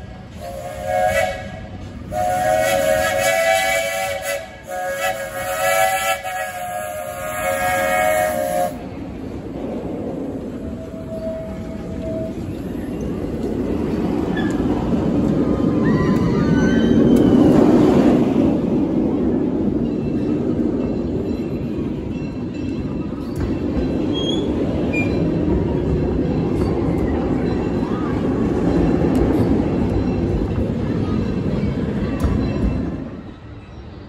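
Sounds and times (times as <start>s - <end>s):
train wheels clattering on rails: 0.0s - 34.0s.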